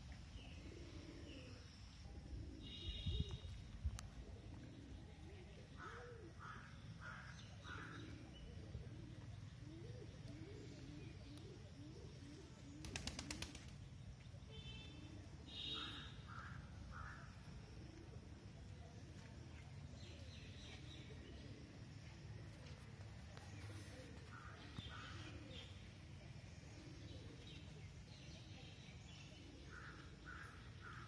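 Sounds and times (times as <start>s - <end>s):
birds cooing: 0.2s - 13.9s, 14.9s - 22.8s, 23.4s - 31.0s.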